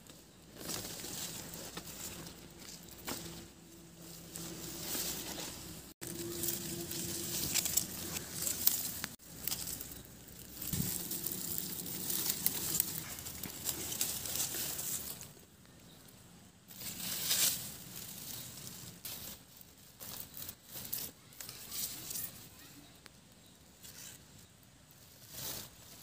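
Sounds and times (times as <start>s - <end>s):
vines and grass rustling: 0.0s - 26.0s.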